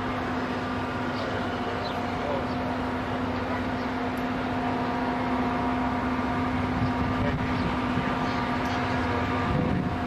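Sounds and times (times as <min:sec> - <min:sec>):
diesel locomotive engine humming: 0:00.0 - 0:10.0.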